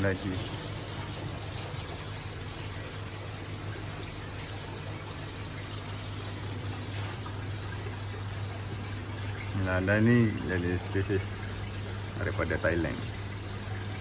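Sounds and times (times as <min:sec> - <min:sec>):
low pump hum: 0:00.0 - 0:14.0
running splashing water: 0:00.0 - 0:14.0.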